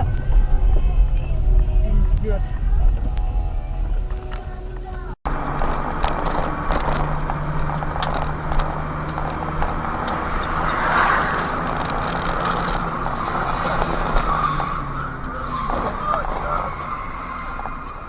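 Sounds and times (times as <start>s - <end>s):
car engine and road noise: 0.0s - 18.0s
hissing tyre noise: 0.0s - 18.0s.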